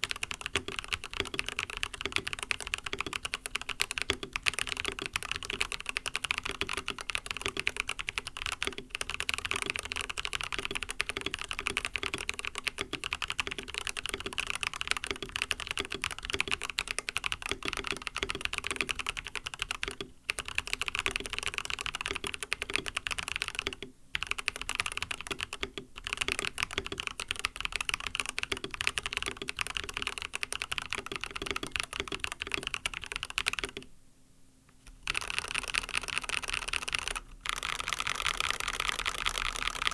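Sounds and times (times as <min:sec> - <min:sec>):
fast typing on mechanical keyboard: 0:00.0 - 0:33.9, 0:34.9 - 0:39.9.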